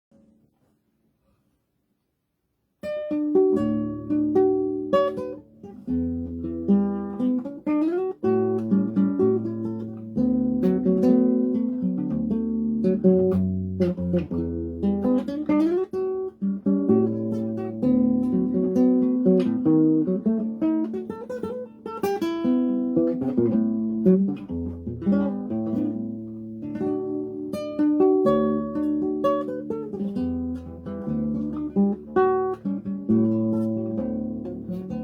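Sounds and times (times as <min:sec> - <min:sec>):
acoustic guitar playing: 0:02.8 - 0:35.0.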